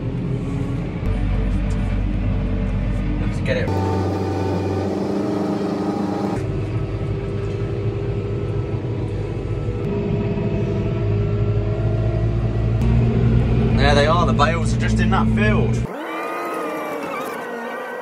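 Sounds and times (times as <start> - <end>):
diesel engine running: 0.0 - 15.9.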